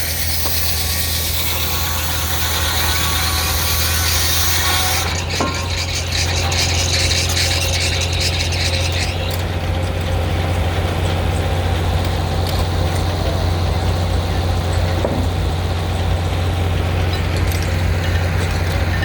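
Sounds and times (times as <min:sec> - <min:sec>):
steam engine and sawmill drone: 0:00.0 - 0:19.0.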